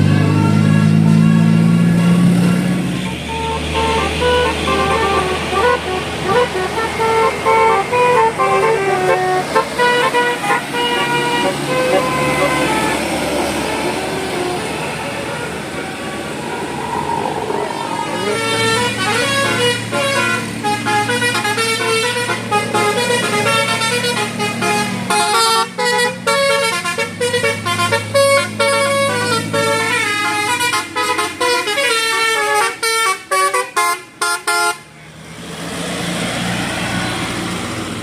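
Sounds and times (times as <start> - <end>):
low engine hum: 0.0 - 32.3
musical bus horn playing melody: 0.2 - 16.7, 18.0 - 34.9.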